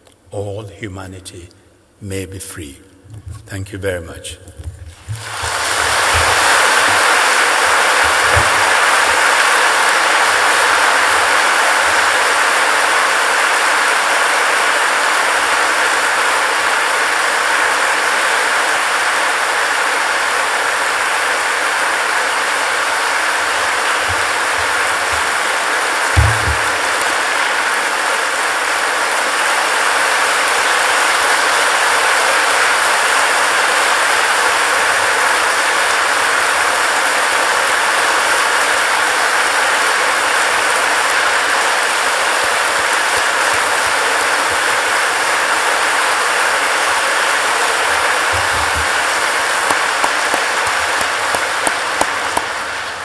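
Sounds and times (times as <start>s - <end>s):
large audience applauding: 5.0s - 53.0s.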